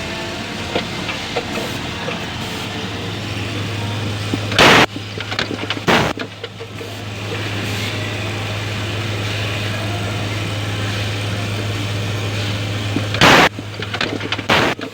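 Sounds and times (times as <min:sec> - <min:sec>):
machine hum: 0:00.0 - 0:14.9
press stroke burst: 0:00.0 - 0:14.9.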